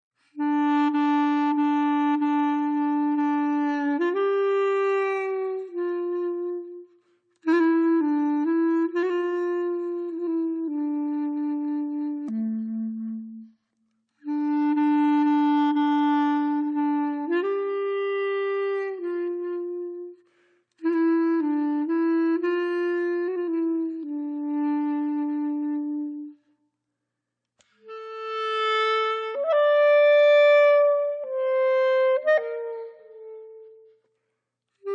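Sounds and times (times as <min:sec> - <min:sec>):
slow solo woodwind melody: 0:00.2 - 0:26.6, 0:27.6 - 0:34.9.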